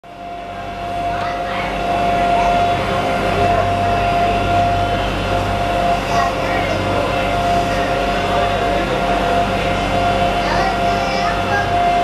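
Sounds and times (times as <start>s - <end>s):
boat engine droning: 0.0s - 12.0s
engine whine: 0.0s - 12.0s.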